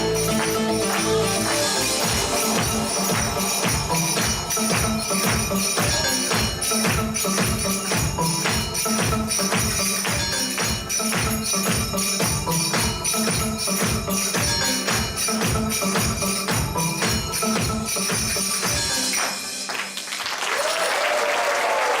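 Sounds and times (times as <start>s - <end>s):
dance music with driving beat: 0.0s - 19.1s.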